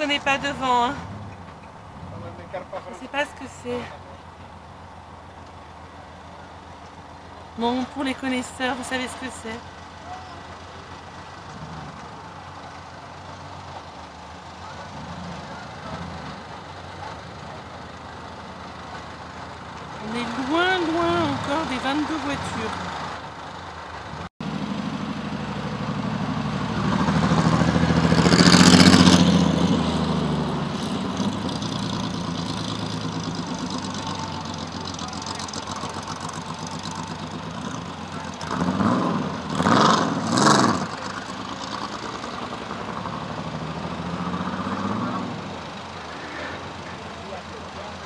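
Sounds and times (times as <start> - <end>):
buggy engine revving: 0.0 - 48.0.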